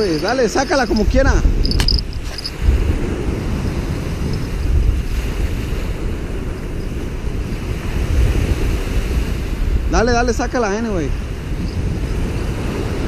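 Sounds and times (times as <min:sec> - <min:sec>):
small waves breaking on beach: 0:00.0 - 0:13.0
wind gusting on microphone: 0:00.0 - 0:13.0.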